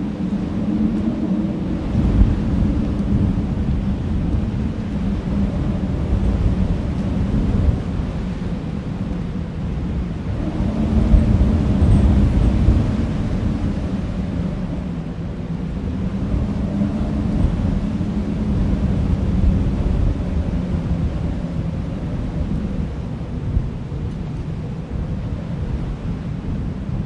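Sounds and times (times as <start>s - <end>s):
wind blowing across field: 0.0s - 27.0s.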